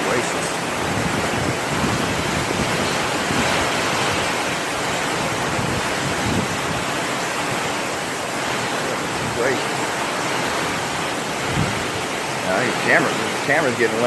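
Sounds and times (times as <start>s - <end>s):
strong gusting wind: 0.0s - 14.0s
torrential rain: 0.0s - 14.0s.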